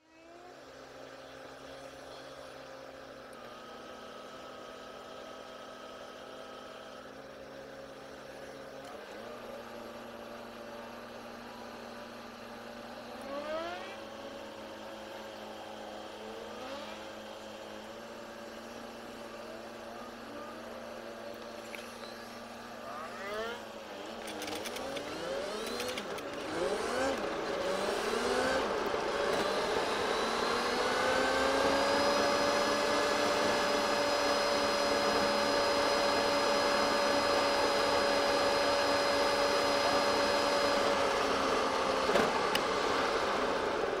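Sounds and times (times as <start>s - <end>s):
sped-up car engine whine: 0.0s - 44.0s.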